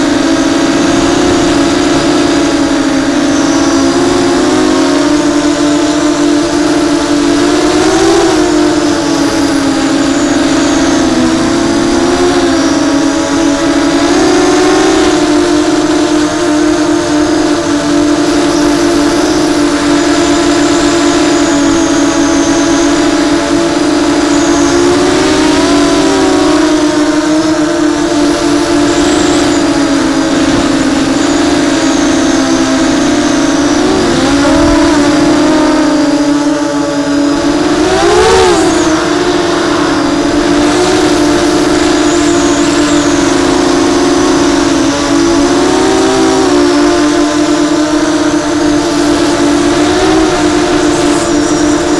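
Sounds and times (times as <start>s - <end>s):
quadcopter motors buzzing: 0.0s - 51.9s.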